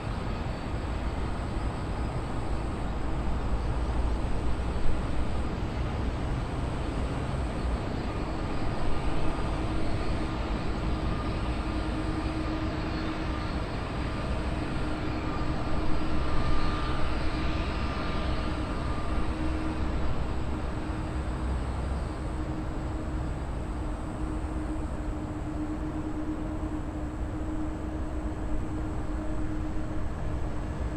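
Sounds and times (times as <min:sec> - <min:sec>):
jet engines rumbling and whining: 0:00.0 - 0:30.9.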